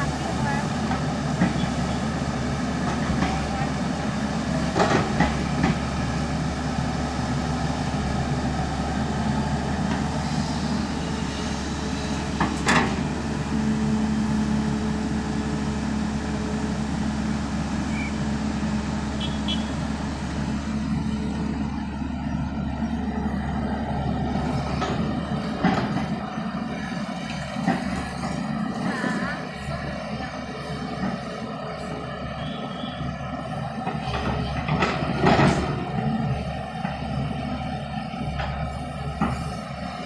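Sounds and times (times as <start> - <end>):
backhoe diesel engine running: 0.0 - 40.0.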